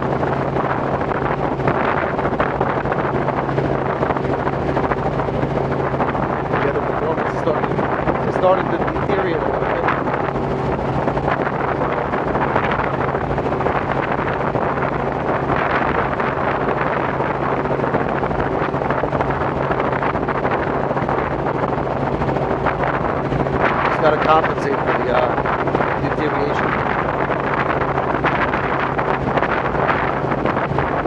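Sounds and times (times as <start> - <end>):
helicopter drone: 0.0 - 31.0
wind on microphone: 0.0 - 31.0.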